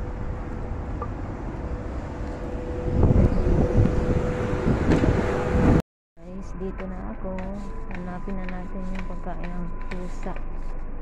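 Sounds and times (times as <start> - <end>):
wind buffeting microphone: 0.0 - 10.6
faint hum: 0.0 - 11.0.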